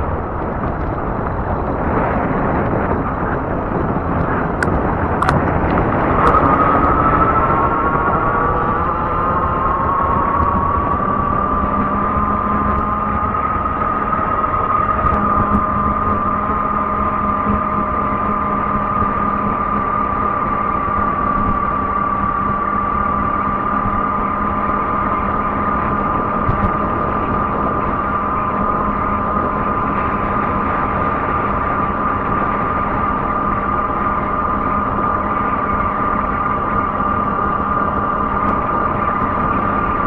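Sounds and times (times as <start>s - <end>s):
e-bike motor whining drone: 0.0s - 40.0s
low hum: 0.0s - 40.0s
wind rumble on microphone: 0.0s - 40.0s.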